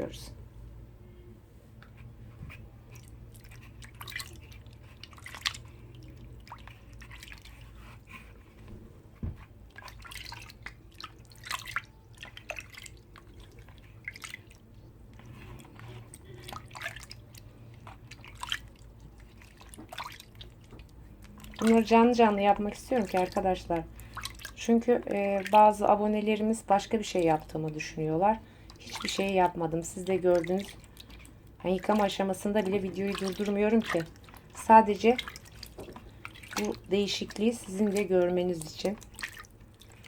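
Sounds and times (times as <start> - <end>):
hands washing in water: 2.6 - 40.0
water splashing and dripping: 2.9 - 7.8, 9.6 - 40.0.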